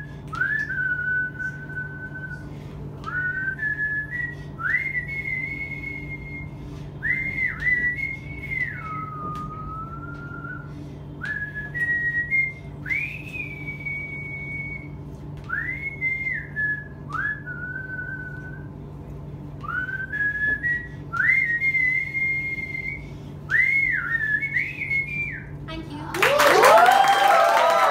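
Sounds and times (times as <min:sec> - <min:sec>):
steady low hum: 0:00.0 - 0:27.9
woman whistling a melody: 0:00.3 - 0:18.8, 0:19.6 - 0:25.6.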